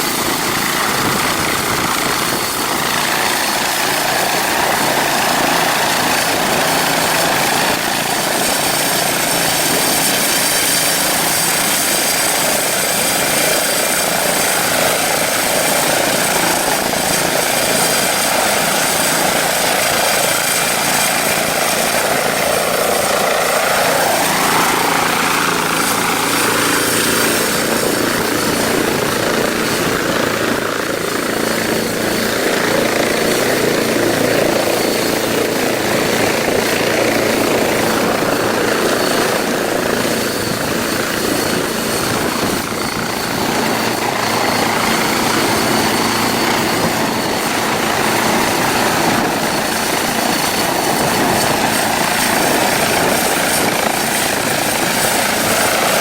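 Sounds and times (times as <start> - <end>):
helicopter rotor and turbine noise: 0.0 - 56.0.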